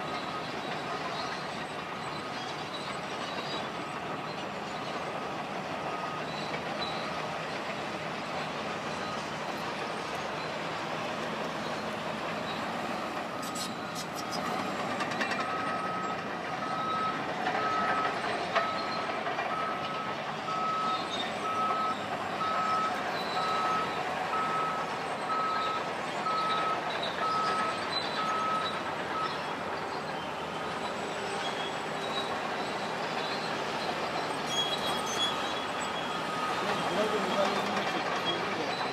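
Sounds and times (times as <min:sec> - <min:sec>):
vehicle reversing alarm beeping: 0:00.0 - 0:38.9.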